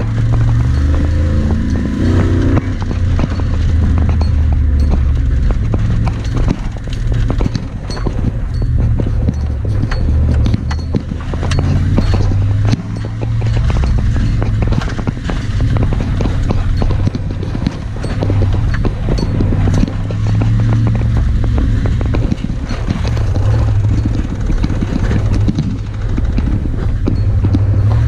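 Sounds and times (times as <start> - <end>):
knocks and rattles from bumps: 0.0 - 28.0
truck engine running: 0.0 - 28.0.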